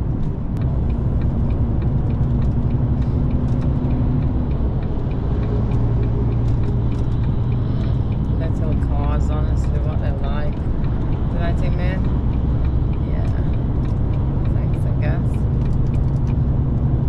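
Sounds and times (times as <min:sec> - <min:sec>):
lorry diesel engine drone: 0:00.0 - 0:17.0.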